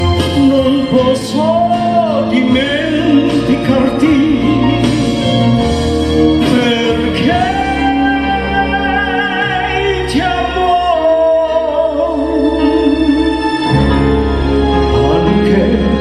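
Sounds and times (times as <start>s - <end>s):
instrumental backing track: 0.0s - 16.0s
person singing with vibrato: 0.0s - 16.0s.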